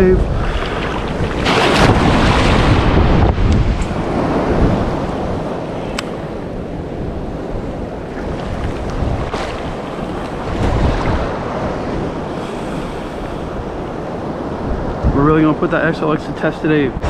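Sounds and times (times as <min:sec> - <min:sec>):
ocean surf washing: 0:00.0 - 0:17.0
wind buffeting microphone: 0:00.0 - 0:17.0.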